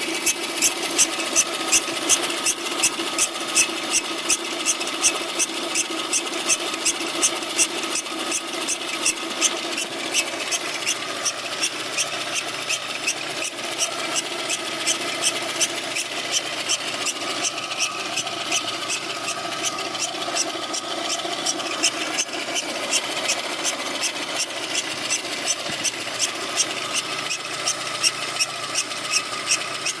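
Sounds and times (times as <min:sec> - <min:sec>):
engine roller whistling: 0:00.0 - 0:30.0
regular ticking: 0:00.0 - 0:30.0.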